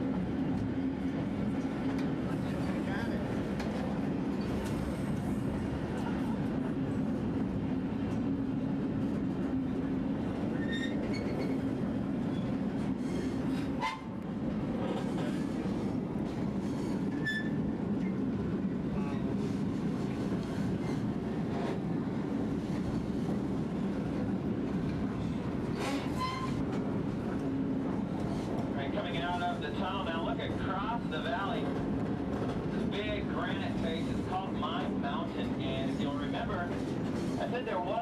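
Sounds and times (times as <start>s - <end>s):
train cars rumbling: 0.0s - 38.0s.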